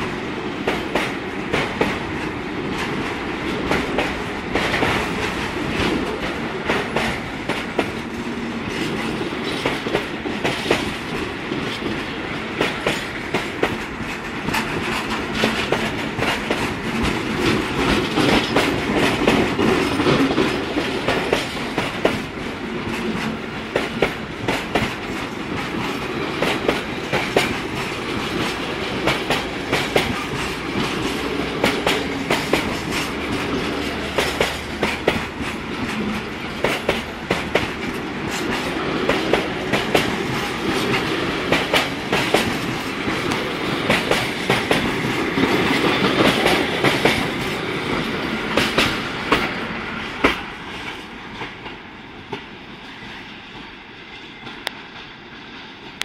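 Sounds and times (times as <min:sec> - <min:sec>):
wheels clacking over rail joints: 0:00.0 - 0:52.5
freight train rumble: 0:00.0 - 0:56.0.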